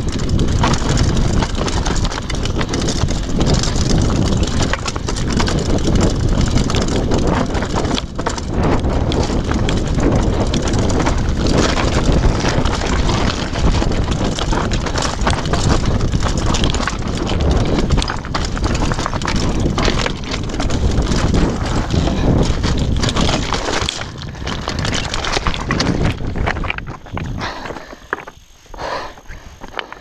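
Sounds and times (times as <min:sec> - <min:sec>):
bike chain and frame rattling: 0:00.0 - 0:30.0
tyres crunching on stones: 0:00.0 - 0:30.0
wind buffeting microphone: 0:00.0 - 0:30.0.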